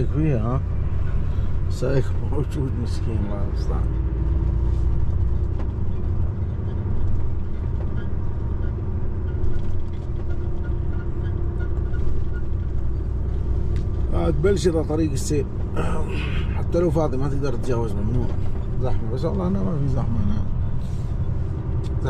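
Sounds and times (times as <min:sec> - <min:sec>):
truck diesel engine running: 0:00.0 - 0:22.0
tyre and road noise: 0:00.0 - 0:22.0.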